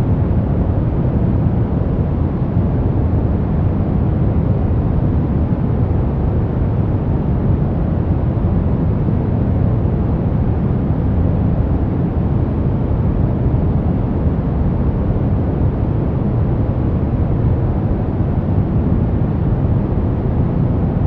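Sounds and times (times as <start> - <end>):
brown noise rumble: 0.0 - 21.0.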